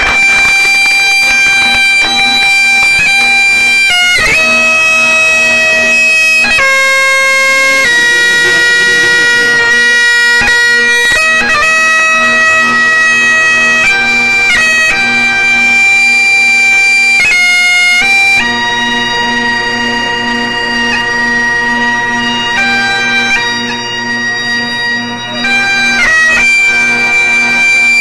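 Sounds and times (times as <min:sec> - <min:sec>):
bagpipes playing: 0:00.0 - 0:28.0.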